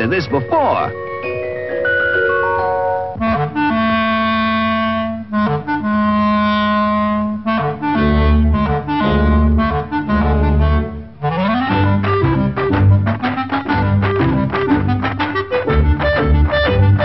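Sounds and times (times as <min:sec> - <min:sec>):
cartoon soundtrack music: 0:00.0 - 0:17.0
low bass notes pulsing: 0:03.2 - 0:17.0.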